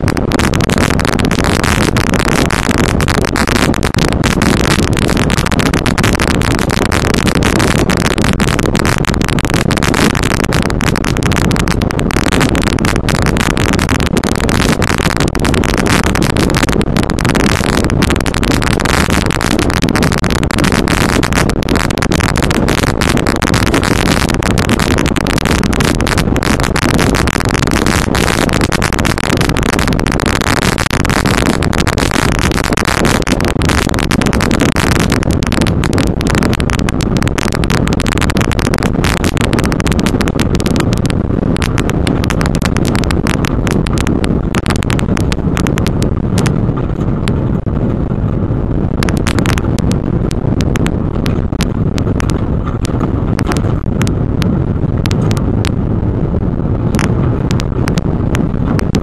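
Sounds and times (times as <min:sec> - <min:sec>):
off-road vehicle driving fast: 0:00.0 - 0:59.0.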